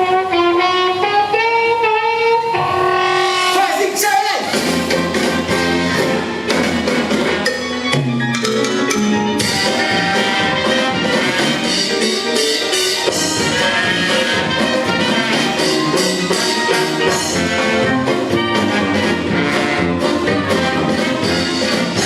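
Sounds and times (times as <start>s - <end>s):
brassy orchestral show music: 0.0s - 22.0s
trumpets and trombones: 0.0s - 22.0s
steady beat: 3.4s - 22.0s.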